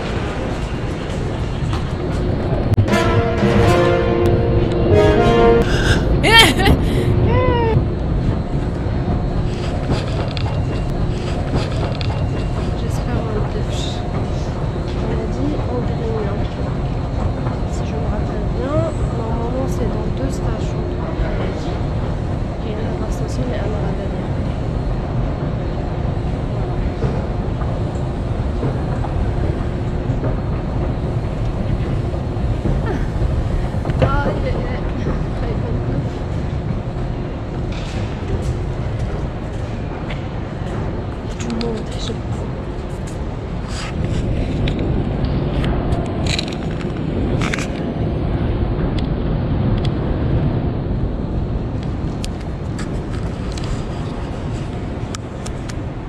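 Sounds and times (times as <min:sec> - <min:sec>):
metro station noise: 0:00.0 - 0:56.0
subway platform rumble: 0:00.0 - 0:56.0.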